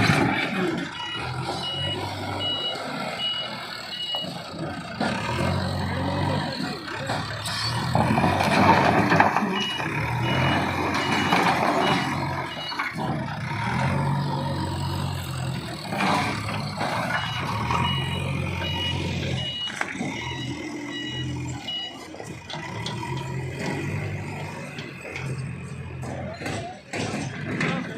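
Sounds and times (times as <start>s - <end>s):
demolition crashing and scraping: 0.0s - 1.8s, 4.0s - 27.9s
bulldozer diesel engine: 0.0s - 27.9s
reversing alarm beeping: 0.8s - 13.0s, 13.9s - 26.7s.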